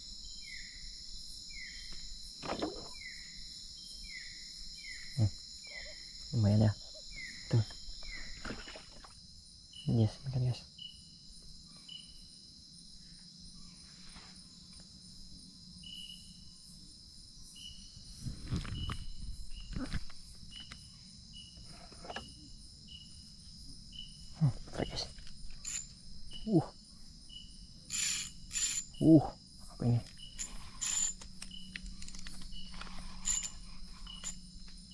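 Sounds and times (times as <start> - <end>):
night insects chorus: 0.0 - 34.9.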